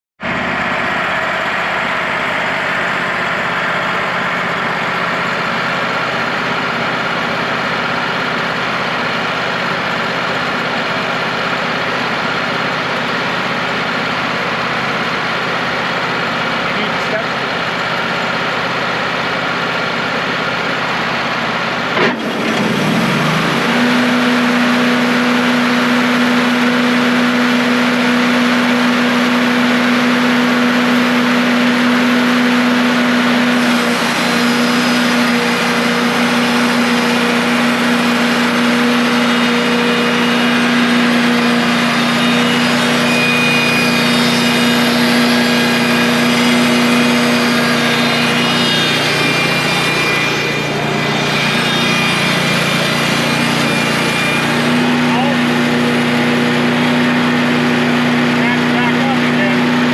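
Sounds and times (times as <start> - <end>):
band saw cutting log: 0.2 - 59.9
sawmill engine revving: 0.2 - 59.9.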